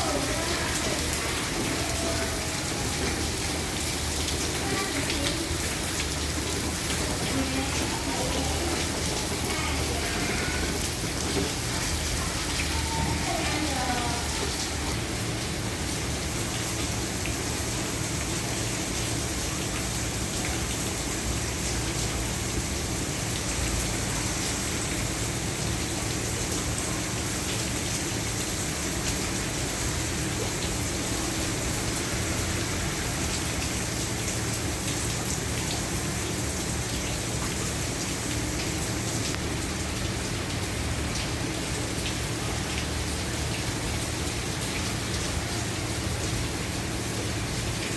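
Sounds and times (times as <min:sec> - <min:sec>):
heavy rain on a roof: 0:00.0 - 0:47.9.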